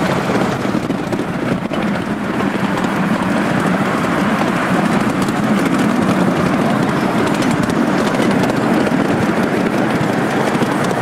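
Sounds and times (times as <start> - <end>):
steam locomotive working: 0.0 - 11.0
train wheels rumbling on rails: 0.0 - 11.0.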